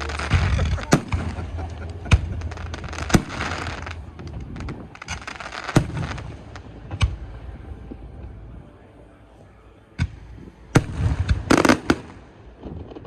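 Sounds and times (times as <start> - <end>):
fireworks crackling and fizzing: 0.0 - 8.9, 10.0 - 13.0.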